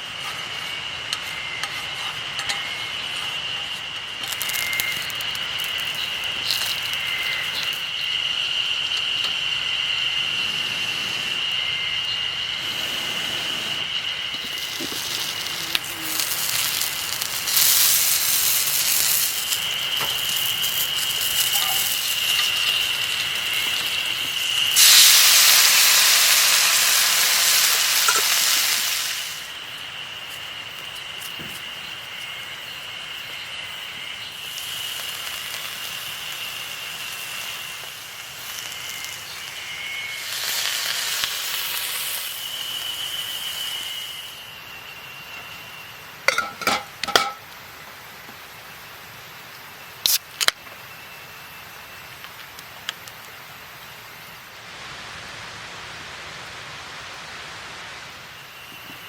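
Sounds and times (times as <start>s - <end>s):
thin steady high tone: 0.0s - 47.8s
food sizzling over campfire: 0.0s - 59.0s.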